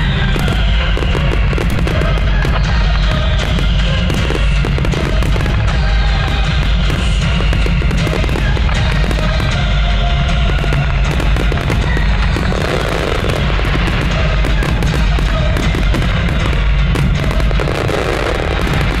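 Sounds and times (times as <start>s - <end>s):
fireworks bursting and crackling: 0.0s - 19.0s
heavy low rumble: 0.0s - 19.0s
music playing: 0.0s - 19.0s.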